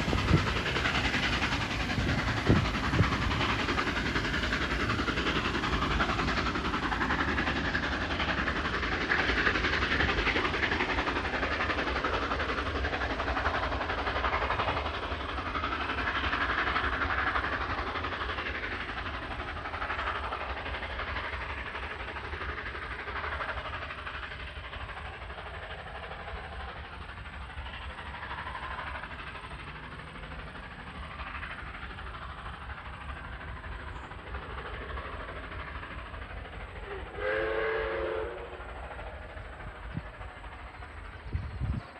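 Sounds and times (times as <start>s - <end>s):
train wheels clattering on rails: 0.0s - 41.9s.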